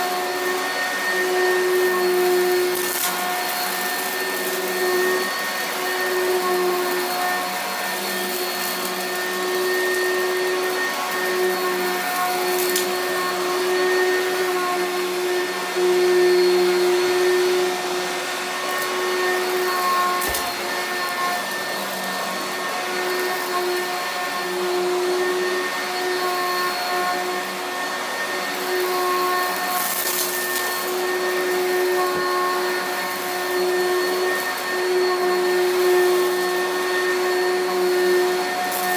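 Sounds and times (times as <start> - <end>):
vacuum cleaner motor hum: 0.0 - 38.9.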